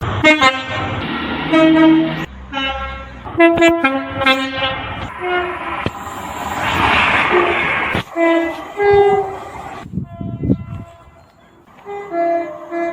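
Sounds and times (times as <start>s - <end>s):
train horn blasts: 0.0s - 5.9s, 7.2s - 12.9s
low train rumble: 0.0s - 12.9s.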